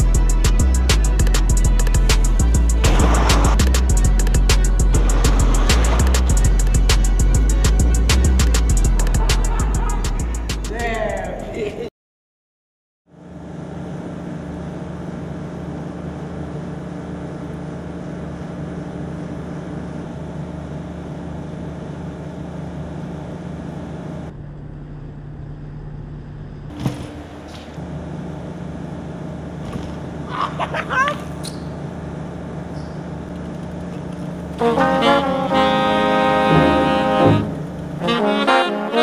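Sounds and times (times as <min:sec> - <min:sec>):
low machine hum: 0:00.0 - 0:11.9, 0:13.1 - 0:39.0.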